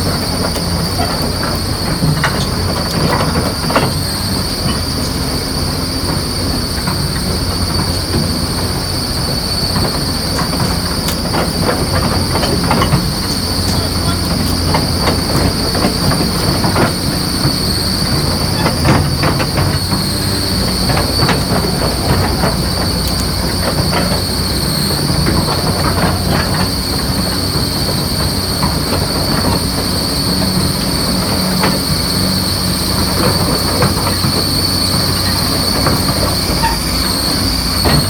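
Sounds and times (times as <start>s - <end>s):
excavator diesel engine rumble: 0.0s - 38.0s
metallic clanks and squeaks: 0.0s - 38.0s.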